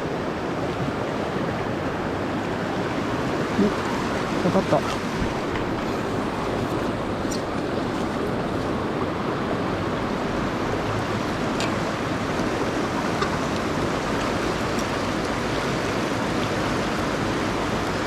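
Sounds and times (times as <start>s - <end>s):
river water rushing over rocks: 0.0s - 18.0s.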